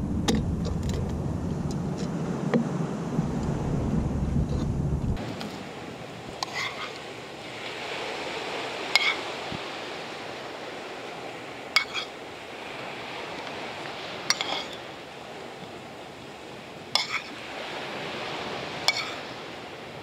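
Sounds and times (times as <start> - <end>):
surf: 0.0 - 20.0
wind: 0.0 - 20.0.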